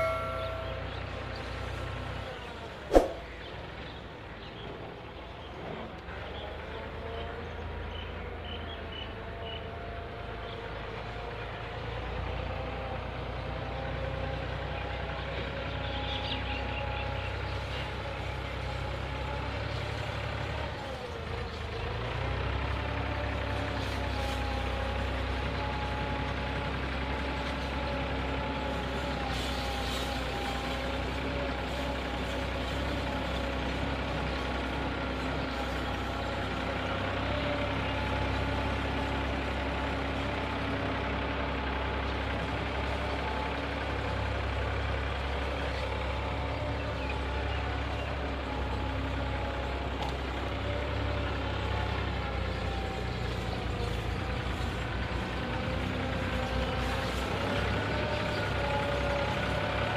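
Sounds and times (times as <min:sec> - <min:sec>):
machine rumbling and whining: 0:00.0 - 0:59.9.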